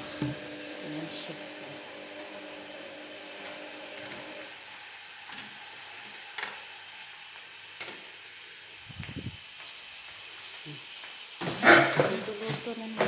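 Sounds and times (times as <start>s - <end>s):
chicken and onion sizzling: 0.0s - 13.0s.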